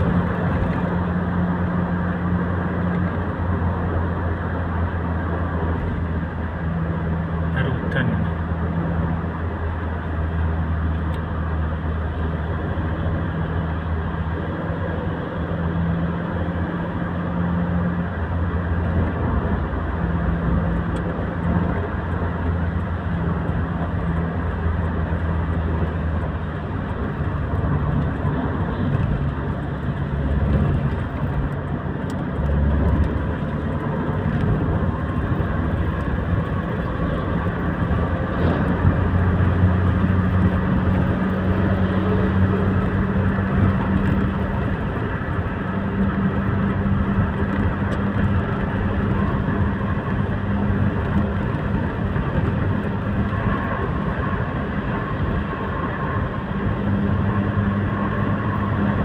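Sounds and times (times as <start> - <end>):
low engine drone: 0.0 - 59.0
tyre road noise: 0.0 - 59.0.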